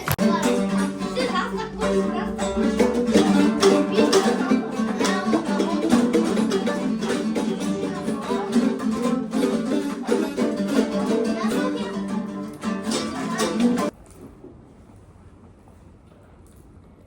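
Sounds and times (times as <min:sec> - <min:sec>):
plucked acoustic guitar music: 0:00.0 - 0:13.9.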